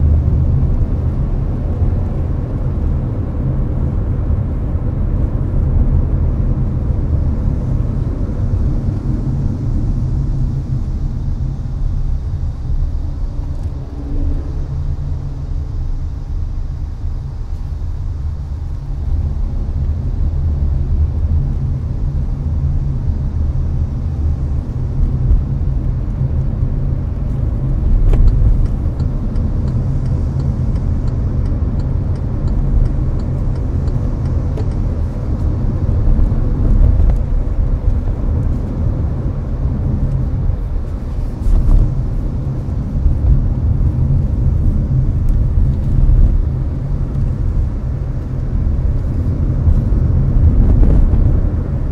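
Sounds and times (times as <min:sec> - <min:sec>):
air conditioner blowing: 0:00.0 - 0:51.9
road and tyre rumble: 0:00.0 - 0:51.9.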